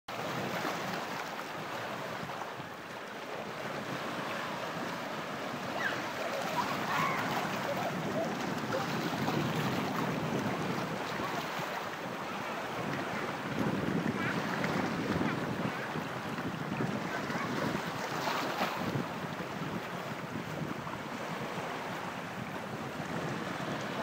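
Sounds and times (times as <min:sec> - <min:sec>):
waves lapping on rocky shore: 0:00.1 - 0:24.0
wind noise on microphone: 0:03.5 - 0:24.0.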